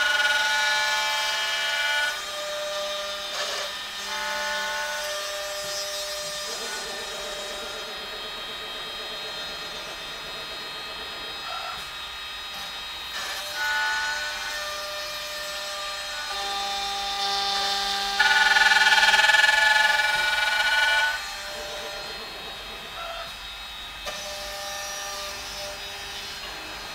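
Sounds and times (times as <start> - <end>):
drilling machine motor whine: 0.0 - 26.9.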